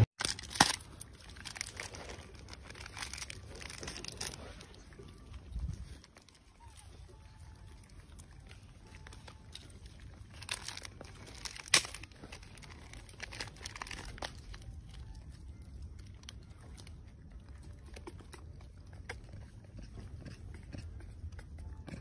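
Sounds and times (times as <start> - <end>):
plastic wrapper crinkling: 0.2 - 19.0.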